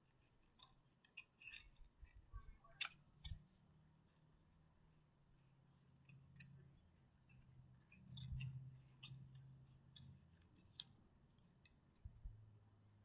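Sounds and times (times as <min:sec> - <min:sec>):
low steady hum: 0:00.0 - 0:13.0
soft clicks and rustles: 0:00.0 - 0:13.0.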